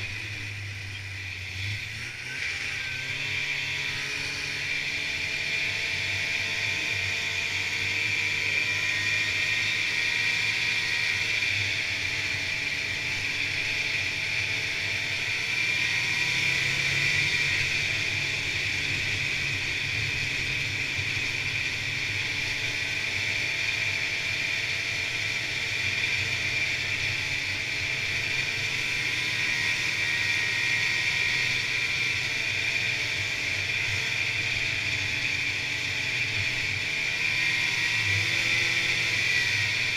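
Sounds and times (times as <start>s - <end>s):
snowmobile engine drone: 0.0s - 39.9s.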